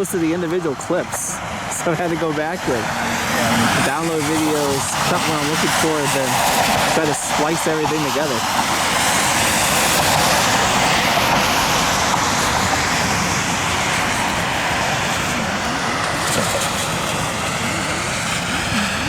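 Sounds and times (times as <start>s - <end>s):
jet airliner engines roaring: 0.0s - 19.0s.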